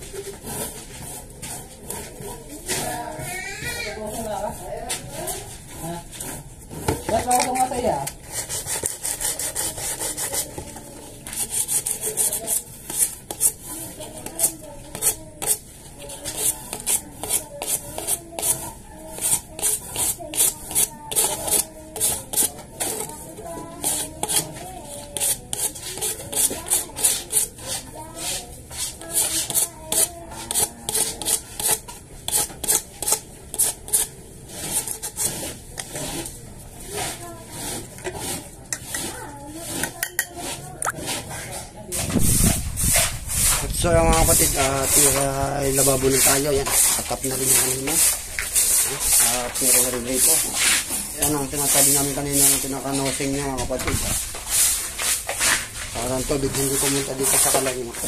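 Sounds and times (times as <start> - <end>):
hand tool scraping hard surface: 0.0 - 58.0.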